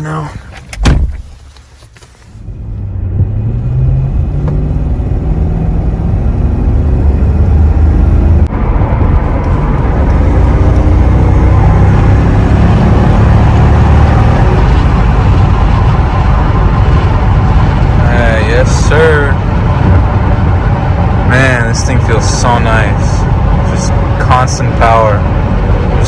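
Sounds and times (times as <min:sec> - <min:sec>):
car engine accelerating hard: 0:02.4 - 0:26.0.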